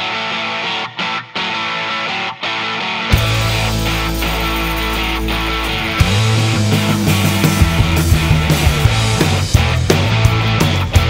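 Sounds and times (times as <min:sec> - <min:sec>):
blues-rock band playing: 0:00.0 - 0:11.0.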